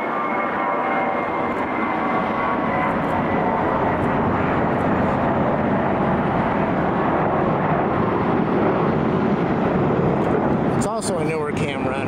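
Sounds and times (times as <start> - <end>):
jet airliner engines rushing: 0.0 - 12.0.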